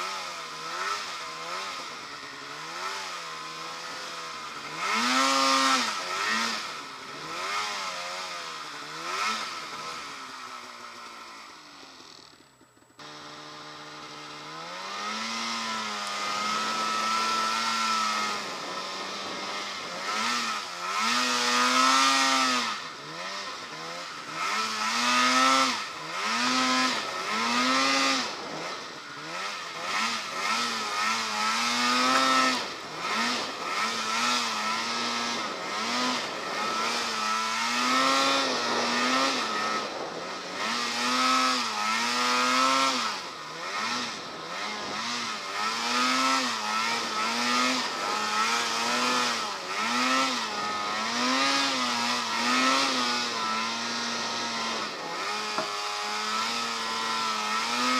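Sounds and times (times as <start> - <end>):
snowmobile engine revving: 0.0 - 57.9.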